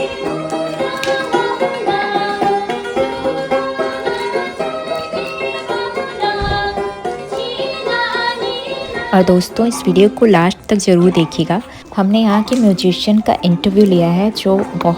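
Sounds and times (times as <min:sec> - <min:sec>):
folk music on plucked strings: 0:00.0 - 0:14.9.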